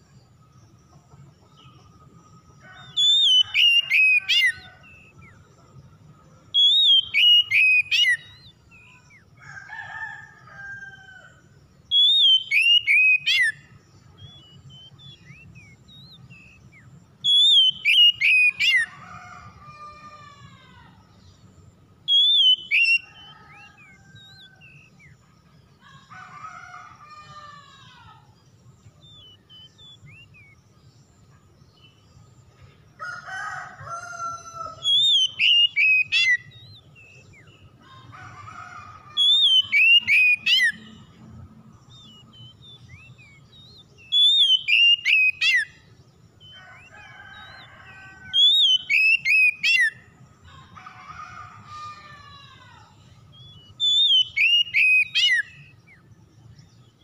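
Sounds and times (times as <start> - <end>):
bird whistling song: 0.0 - 5.4, 6.0 - 10.0, 11.8 - 19.5, 21.0 - 25.3, 28.2 - 32.3, 33.9 - 37.8, 38.4 - 41.2, 41.8 - 57.0.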